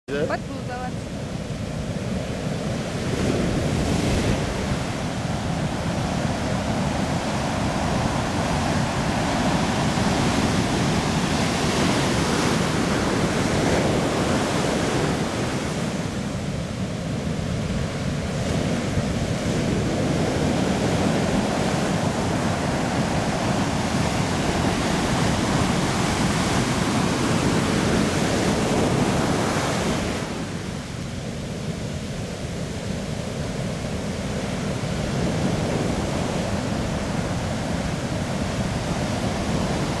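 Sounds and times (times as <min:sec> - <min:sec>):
ocean surf breaking: 0:00.1 - 0:40.0.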